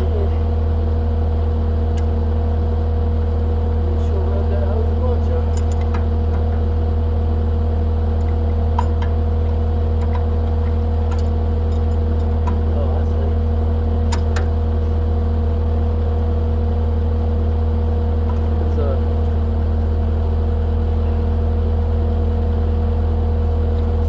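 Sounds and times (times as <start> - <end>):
heavy equipment engine idling: 0.0 - 24.0.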